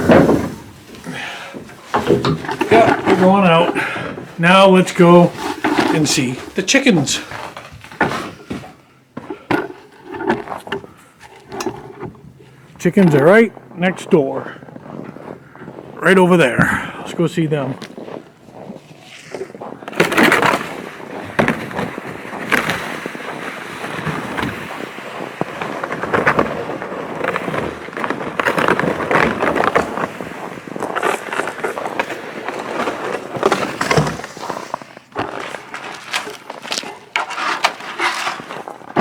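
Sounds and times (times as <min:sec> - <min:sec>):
footsteps crunching through snow: 0:00.0 - 0:09.5, 0:12.4 - 0:39.0.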